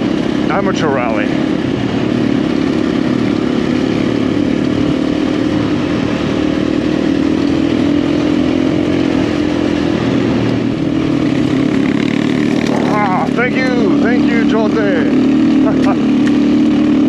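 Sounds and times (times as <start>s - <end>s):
dirt bike engine running: 0.0s - 17.0s
gravel noise: 0.0s - 17.0s.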